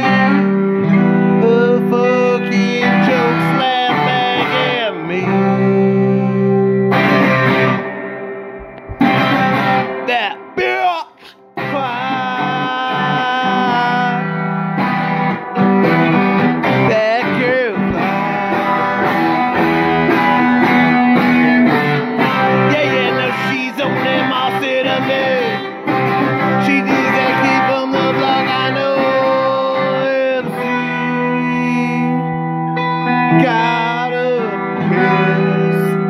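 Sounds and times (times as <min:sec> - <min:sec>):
electric guitar melody with bends: 0:00.0 - 0:36.0.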